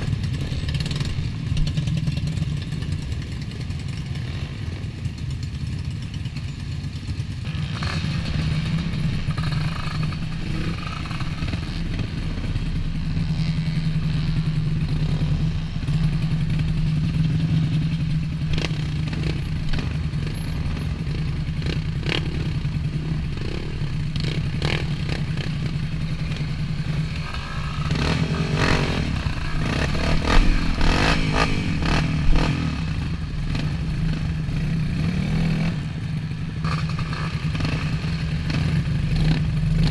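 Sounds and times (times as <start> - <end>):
dirt bike engines droning: 0.0 - 39.9.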